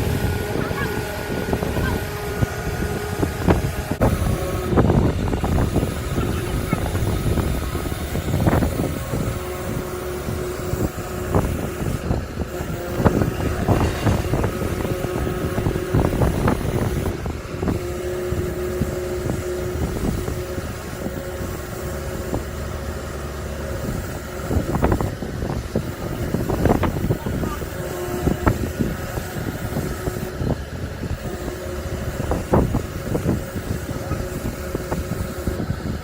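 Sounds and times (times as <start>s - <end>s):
motor rumbling: 0.0s - 36.0s.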